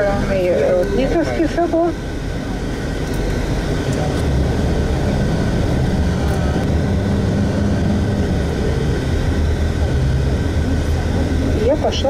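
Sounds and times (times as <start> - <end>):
motor vehicle engine rumble: 0.0 - 12.0.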